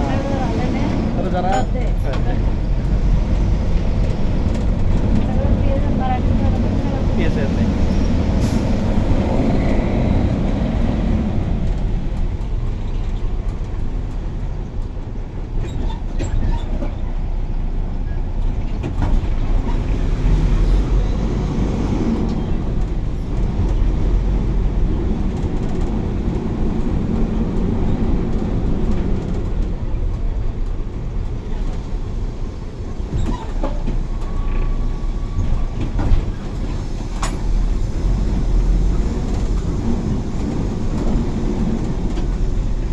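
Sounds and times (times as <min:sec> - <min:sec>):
bus engine and tyres rumble: 0:00.0 - 0:42.9.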